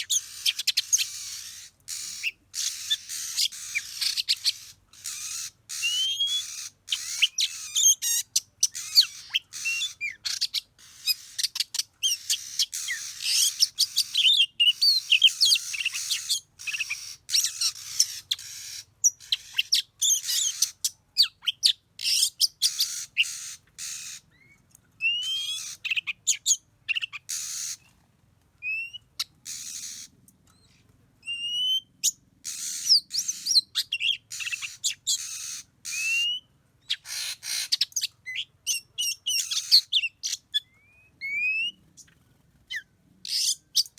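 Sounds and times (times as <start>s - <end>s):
bird chirps and rising whistles: 0.0s - 20.7s, 21.5s - 27.7s, 31.2s - 42.1s.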